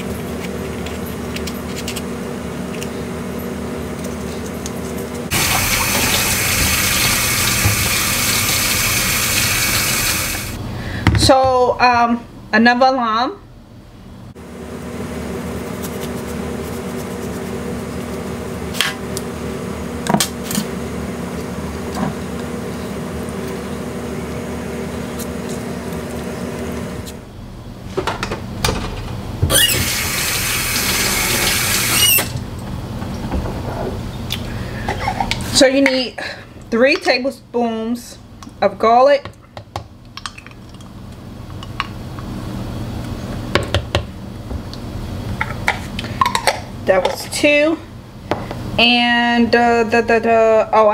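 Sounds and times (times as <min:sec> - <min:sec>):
appliance hum: 0:00.0 - 0:50.9.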